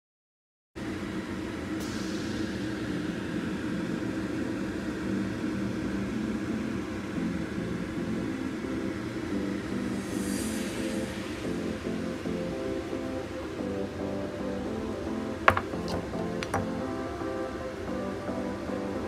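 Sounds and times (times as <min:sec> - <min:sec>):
mechanical hum with low drone: 0:00.8 - 0:19.0.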